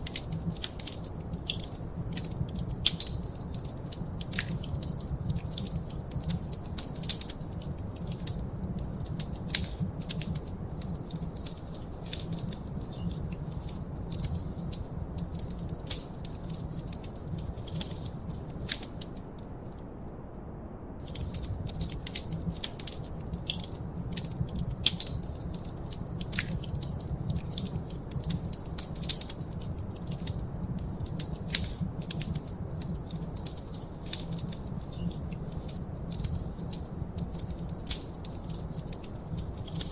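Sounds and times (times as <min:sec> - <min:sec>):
wood fire crackling and popping: 0:00.0 - 0:20.2, 0:21.0 - 0:39.9
low rumble of flames: 0:00.0 - 0:39.9.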